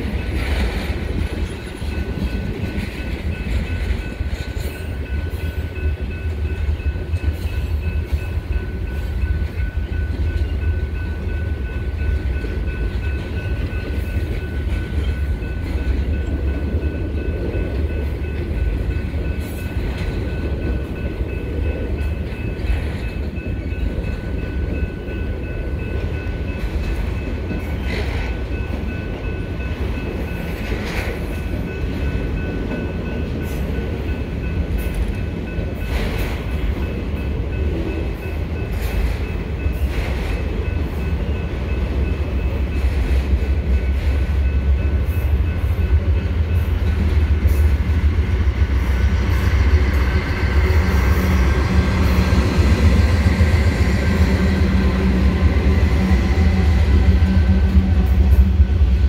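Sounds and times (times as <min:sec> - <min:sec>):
diesel locomotive engine: 0:00.0 - 0:59.0
freight cars rumbling and clanking: 0:00.0 - 0:59.0.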